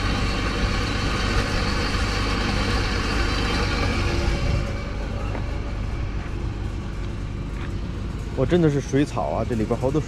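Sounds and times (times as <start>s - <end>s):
water pump humming: 0.0s - 10.0s.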